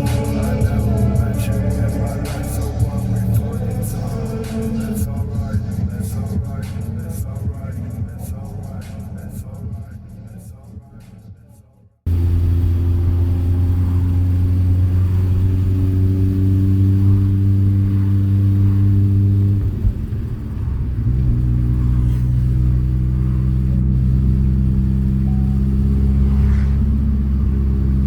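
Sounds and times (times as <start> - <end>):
car engine droning: 0.0 - 11.0, 12.1 - 28.0.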